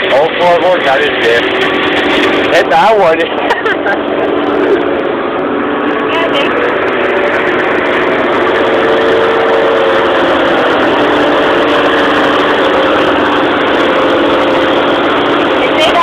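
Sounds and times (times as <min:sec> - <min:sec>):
hedge mower head cutting: 0:00.0 - 0:16.0
tractor engine running: 0:00.0 - 0:16.0.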